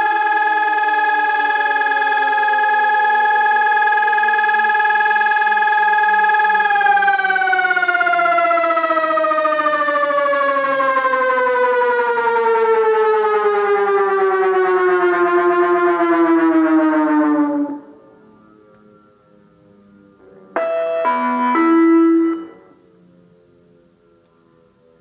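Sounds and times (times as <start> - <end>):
electronic siren winding down: 0.0 - 23.3.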